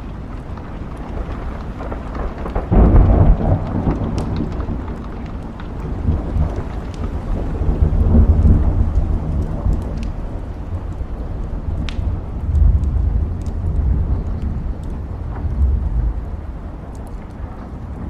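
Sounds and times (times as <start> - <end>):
log fire crackling faintly: 0.0 - 18.0
steady rain: 0.0 - 18.0
thunder rumbling: 0.0 - 18.0.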